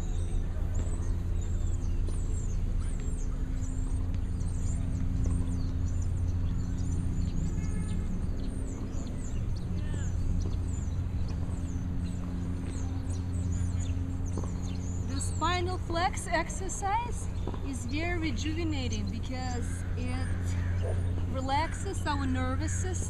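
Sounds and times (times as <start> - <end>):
small birds chirping: 0.0 - 23.0
steady low hum: 0.0 - 23.0.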